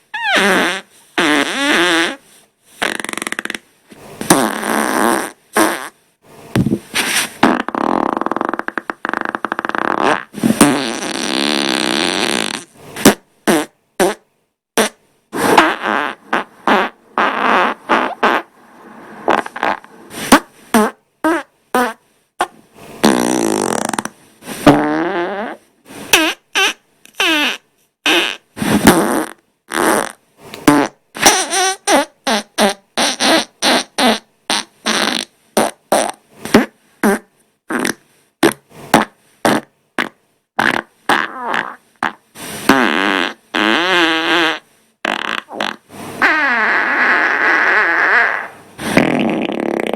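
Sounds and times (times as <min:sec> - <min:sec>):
farts: 0:00.1 - 0:18.6, 0:19.2 - 0:49.9.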